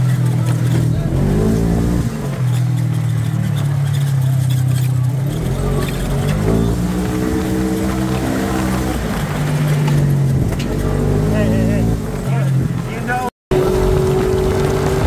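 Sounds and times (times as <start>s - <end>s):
utility vehicle engine accelerating: 0.0s - 15.0s.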